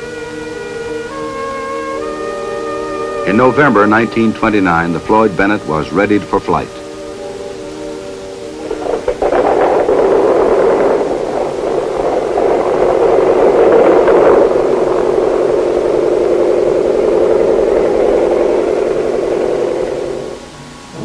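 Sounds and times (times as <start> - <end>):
piston aircraft engines droning: 0.0 - 21.0.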